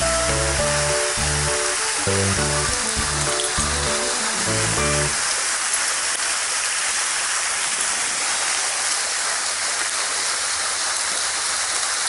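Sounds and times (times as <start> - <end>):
small waterfall rushing and splashing: 0.0 - 12.0.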